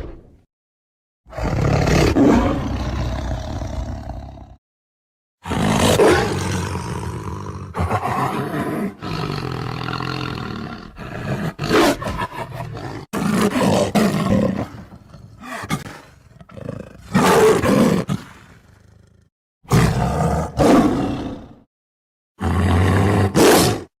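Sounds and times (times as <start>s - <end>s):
tiger roaring: 1.3s - 4.6s, 5.4s - 21.6s, 22.4s - 23.9s.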